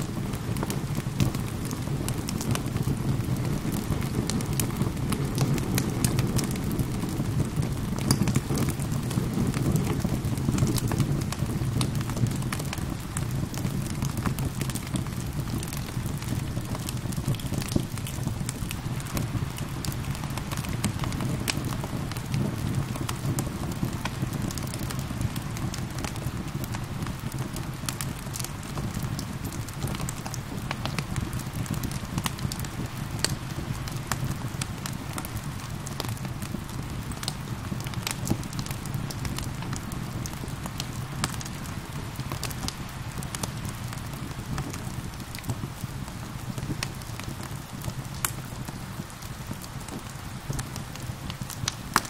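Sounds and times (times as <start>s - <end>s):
rain pattering: 0.0s - 52.0s
wood fire crackling: 0.0s - 52.0s.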